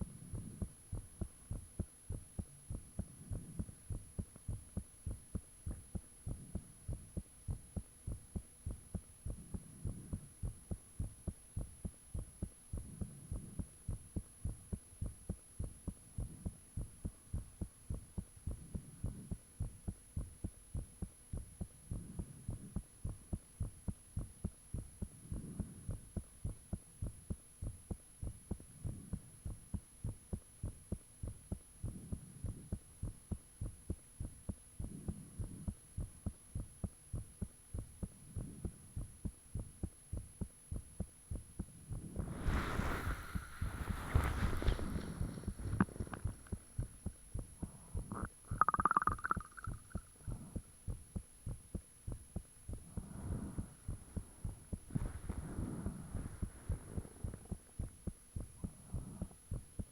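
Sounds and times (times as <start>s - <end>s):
heartbeat thuds: 0.0s - 48.8s, 49.4s - 59.9s.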